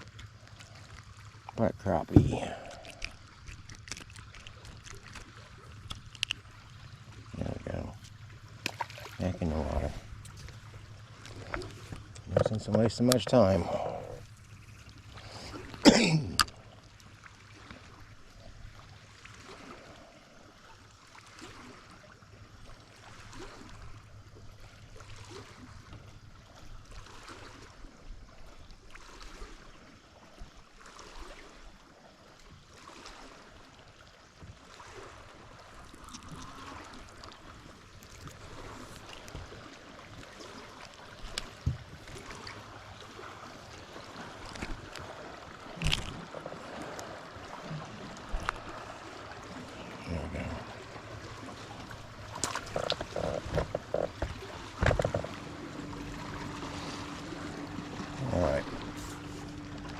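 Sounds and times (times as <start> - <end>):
waves lapping against boat hull: 0.0 - 59.9.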